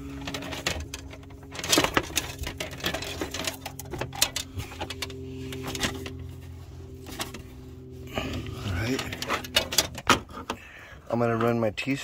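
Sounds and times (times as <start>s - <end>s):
plastic line handling clicks and rustles: 0.0s - 7.6s, 8.2s - 10.6s
steady low hum: 0.0s - 12.0s.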